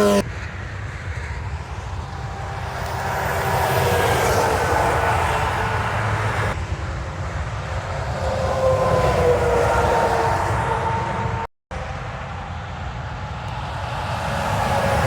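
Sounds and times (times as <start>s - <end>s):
falling whine of passing truck: 0.0s - 15.0s
trucks passing: 0.0s - 15.0s.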